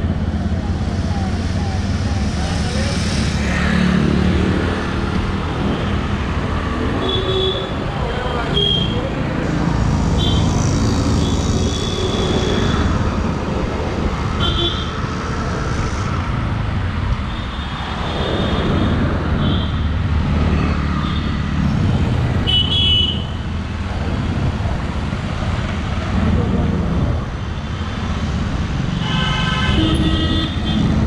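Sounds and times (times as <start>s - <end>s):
rumble of traffic engines: 0.0s - 31.0s.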